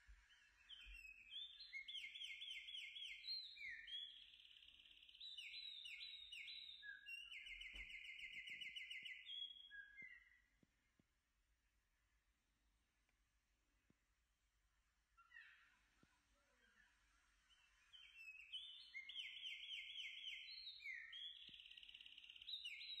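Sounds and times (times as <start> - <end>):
faint bird song trills: 0.0 - 23.0.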